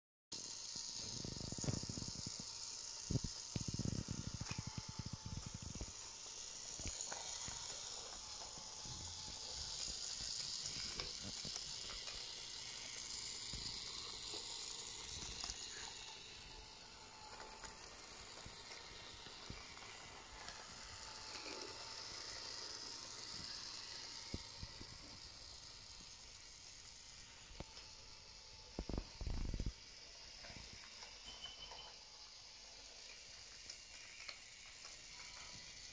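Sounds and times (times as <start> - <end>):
small electric motor whirring: 0.3 - 35.9
toy train wheels clicking on track: 0.3 - 35.9.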